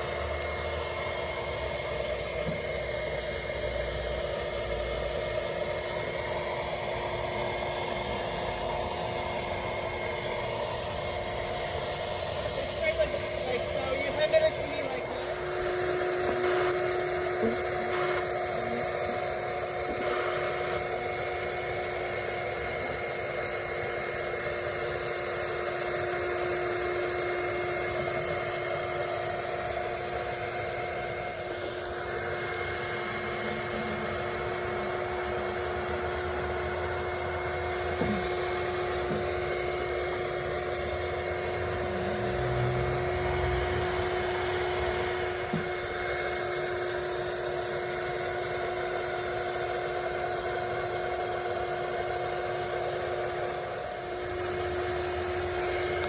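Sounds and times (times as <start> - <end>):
small motor whining: 0.0 - 56.0.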